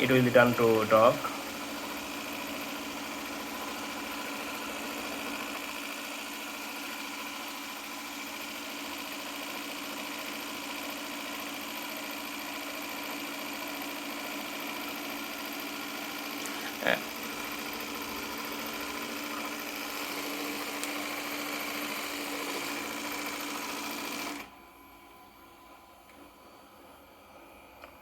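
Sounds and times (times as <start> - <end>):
robot vacuum motor hum: 0.0 - 28.0.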